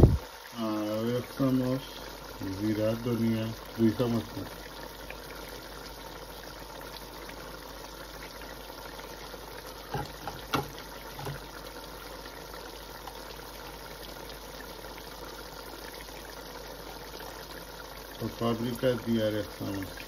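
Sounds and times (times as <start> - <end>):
pot simmering bubbling: 0.0 - 20.0.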